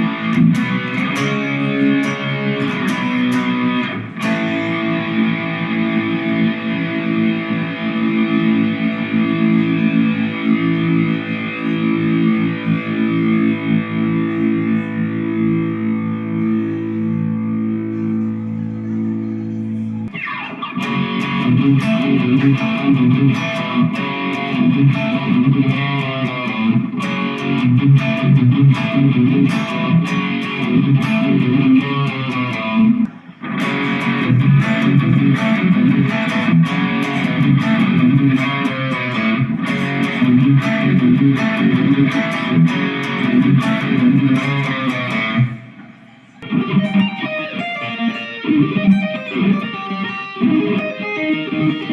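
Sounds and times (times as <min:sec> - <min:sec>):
electric guitar playing: 0:00.0 - 0:51.9.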